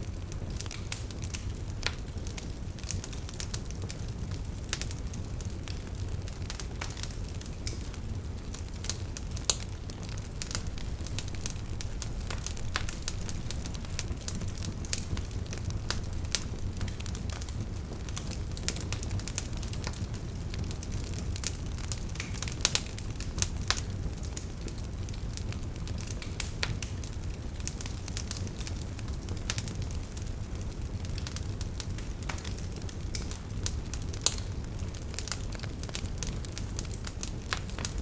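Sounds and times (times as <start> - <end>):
firewood crackling and popping: 0.0 - 38.0
low rumble of flames: 0.0 - 38.0.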